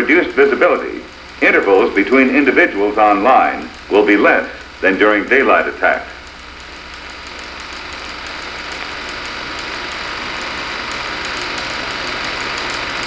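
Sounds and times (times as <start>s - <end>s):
film playback hum and hiss: 0.0s - 13.0s
faint fast ticking: 0.2s - 13.0s.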